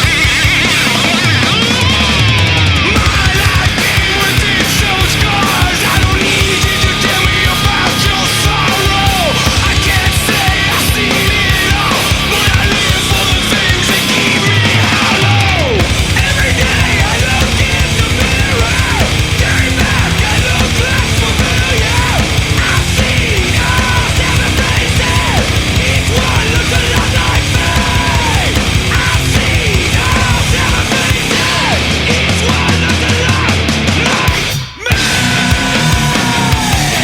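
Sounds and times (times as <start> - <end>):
heavy metal music: 0.0 - 37.0.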